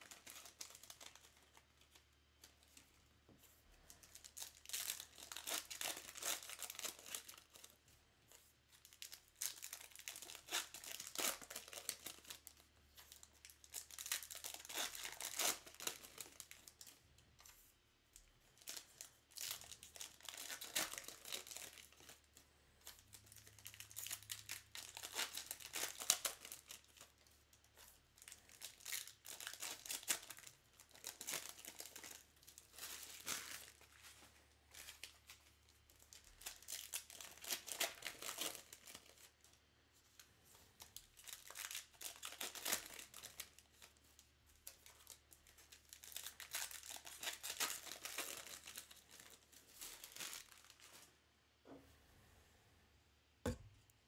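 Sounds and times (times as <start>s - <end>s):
wrappers torn and crinkled: 0.0s - 2.8s, 3.8s - 17.6s, 18.2s - 39.6s, 40.2s - 51.1s.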